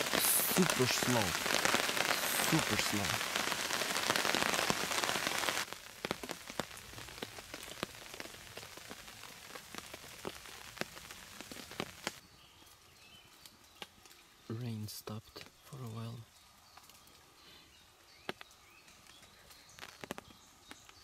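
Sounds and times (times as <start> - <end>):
rain falling on river: 0.0 - 21.0.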